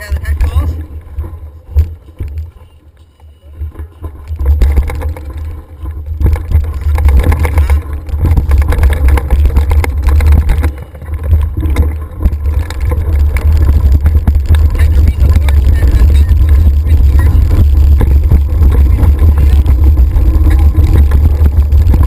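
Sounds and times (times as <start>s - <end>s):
bike clattering over trail: 0.0s - 22.0s
wind buffeting microphone: 3.6s - 22.0s.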